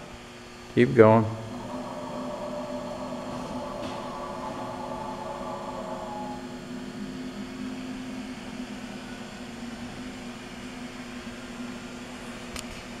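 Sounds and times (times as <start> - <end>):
mixer machine hum: 0.0 - 13.0.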